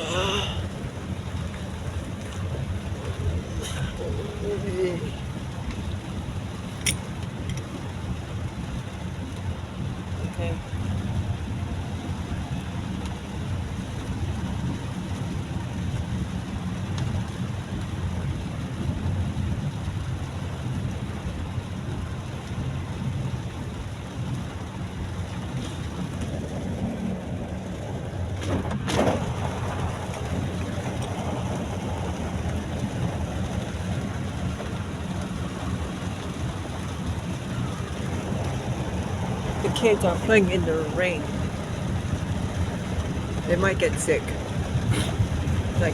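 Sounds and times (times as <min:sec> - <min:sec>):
engine and road rumble: 0:00.0 - 0:45.9
rain on a car: 0:00.0 - 0:45.9.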